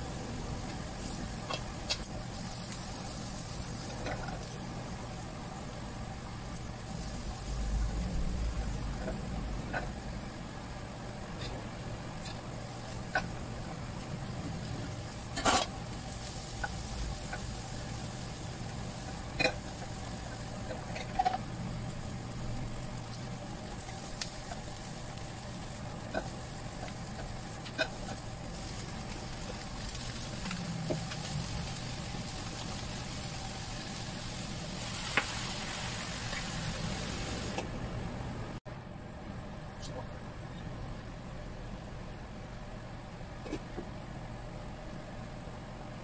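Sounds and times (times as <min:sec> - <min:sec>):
vegetables sizzling in a wok: 0:00.0 - 0:38.2
low hum: 0:00.0 - 0:46.0.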